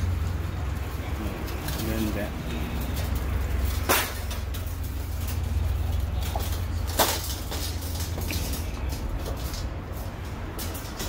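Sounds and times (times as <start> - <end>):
metal plates clacking: 1.4 - 11.0.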